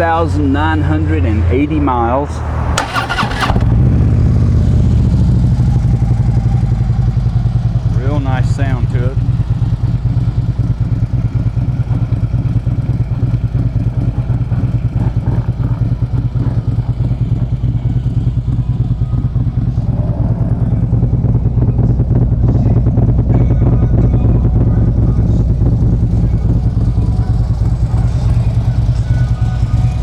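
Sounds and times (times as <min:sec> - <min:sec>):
motorcycle engine idling: 0:02.4 - 0:30.0.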